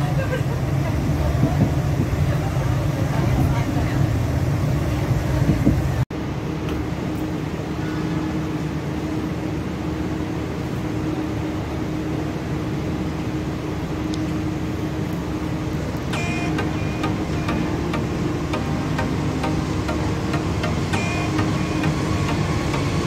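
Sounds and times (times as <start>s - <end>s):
train machine hum: 0.0s - 23.0s.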